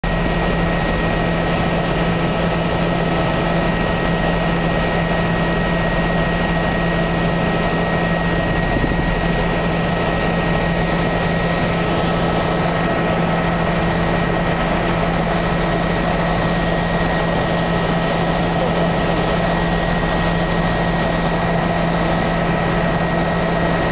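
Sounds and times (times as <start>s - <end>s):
aircraft cabin engine hum: 0.1s - 23.9s.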